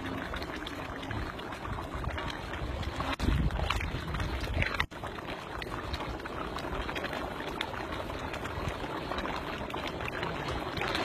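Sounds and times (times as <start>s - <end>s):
liquid bubbling and sizzling in pot: 0.0s - 11.0s.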